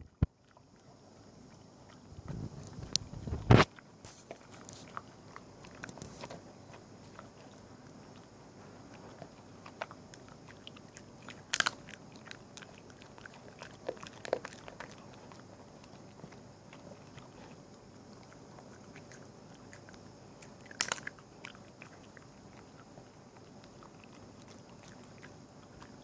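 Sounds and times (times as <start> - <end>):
small pet gnawing food: 0.0 - 26.0.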